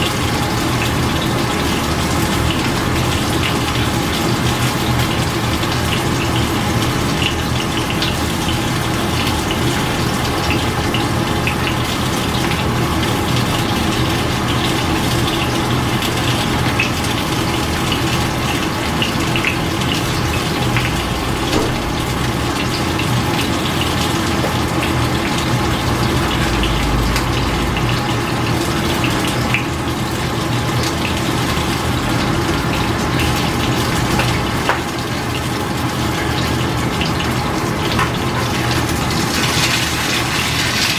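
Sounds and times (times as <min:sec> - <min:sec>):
water boiling in a pot: 0:00.0 - 0:40.9.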